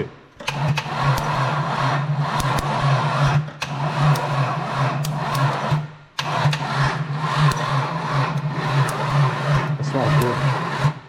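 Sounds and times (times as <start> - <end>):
engine cranking on starter motor: 0.3 - 11.0.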